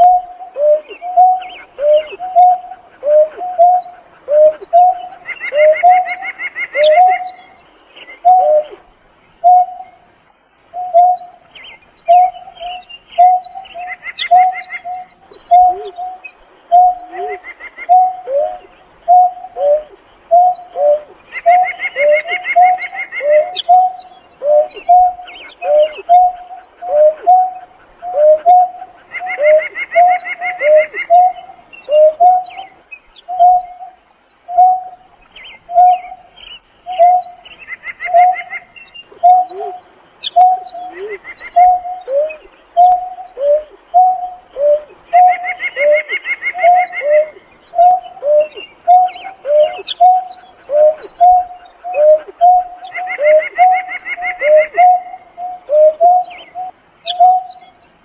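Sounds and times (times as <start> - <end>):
bird hooting: 0.0 - 10.0, 12.1 - 36.3, 36.9 - 57.8.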